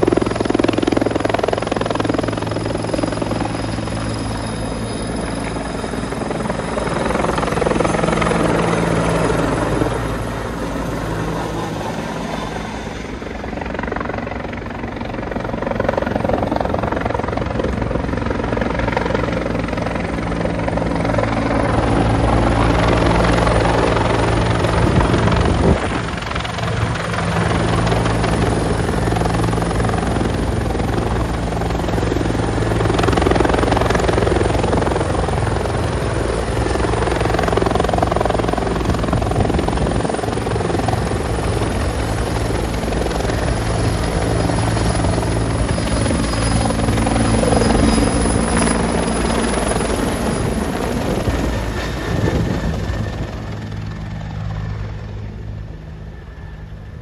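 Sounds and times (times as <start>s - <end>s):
helicopter rotors and engines: 0.0s - 57.0s.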